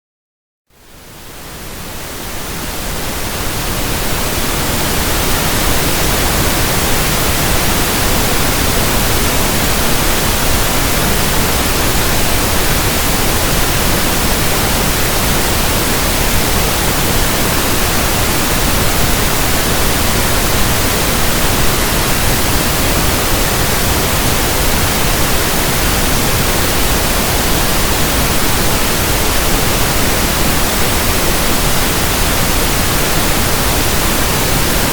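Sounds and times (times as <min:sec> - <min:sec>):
pink noise hiss: 0:00.7 - 0:34.9.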